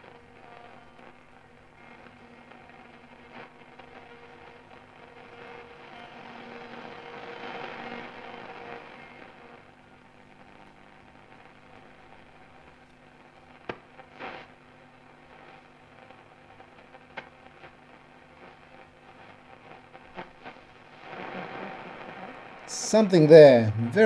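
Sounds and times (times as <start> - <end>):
radio crackles: 0.0 - 24.0
radio static hiss: 0.0 - 24.0.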